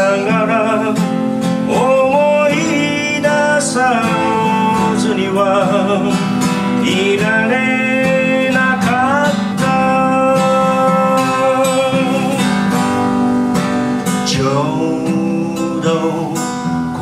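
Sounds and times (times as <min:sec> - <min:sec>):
acoustic guitar strumming: 0:00.0 - 0:17.0
man singing: 0:00.0 - 0:17.0.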